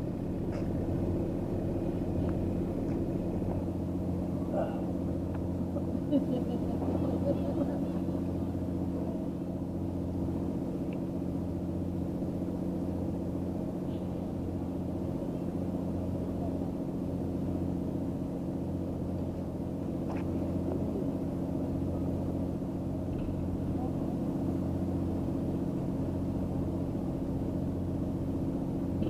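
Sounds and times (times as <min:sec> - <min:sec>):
engine droning steadily: 0:00.0 - 0:29.0.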